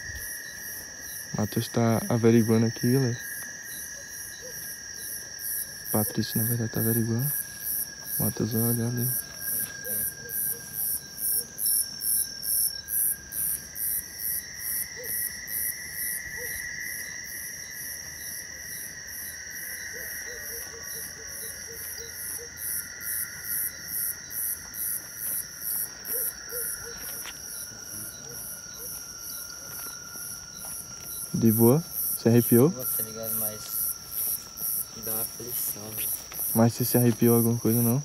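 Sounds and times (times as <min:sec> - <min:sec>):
cricket chirping: 0:00.0 - 0:38.0
insect trills: 0:00.0 - 0:38.0.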